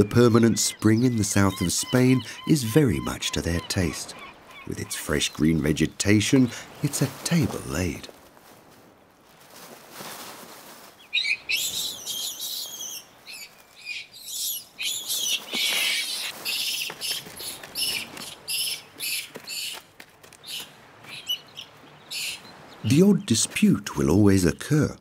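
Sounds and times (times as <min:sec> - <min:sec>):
songbirds singing and twittering: 0:00.0 - 0:08.0, 0:11.0 - 0:19.8, 0:20.4 - 0:24.4.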